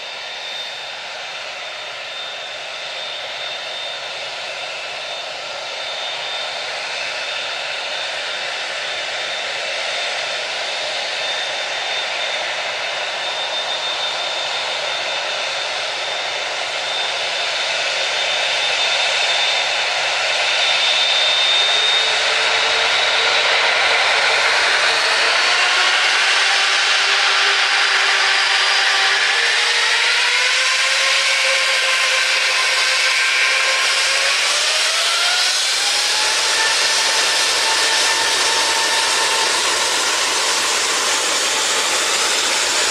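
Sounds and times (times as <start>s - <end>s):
jet engines roaring and whining: 0.0s - 42.9s.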